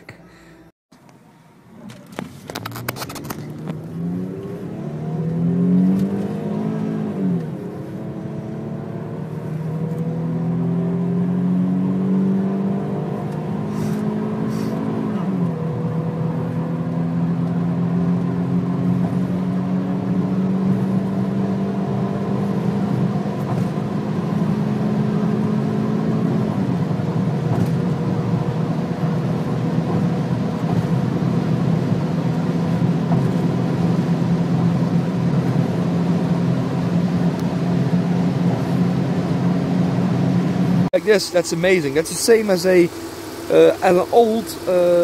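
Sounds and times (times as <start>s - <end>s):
car engine accelerating: 1.4s - 45.0s.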